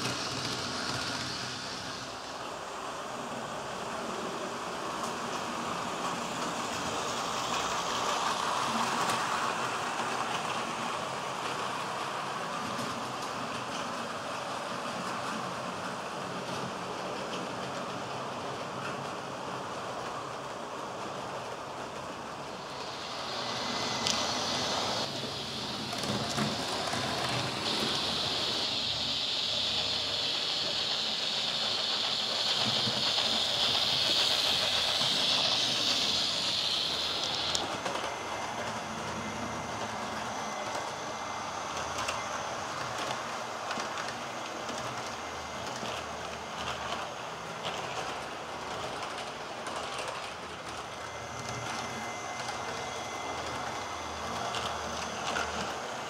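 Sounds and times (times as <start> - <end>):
loud steady hiss: 0.0 - 16.4, 19.4 - 49.6
model train rolling: 0.0 - 56.0.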